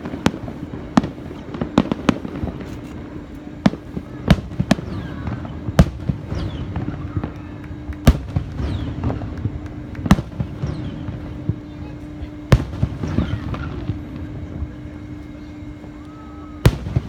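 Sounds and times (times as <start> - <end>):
falling firework whistles: 0.0 - 17.0
fireworks bangs: 0.0 - 17.0.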